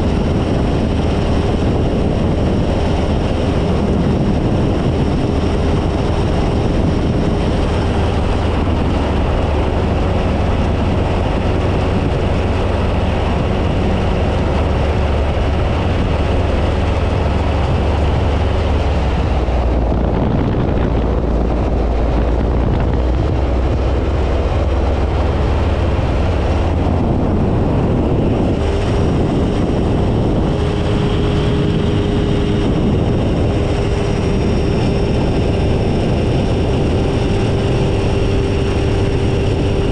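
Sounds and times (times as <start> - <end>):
ultralight engine and propeller droning: 0.0 - 39.9
wind rushing over microphone: 0.0 - 39.9.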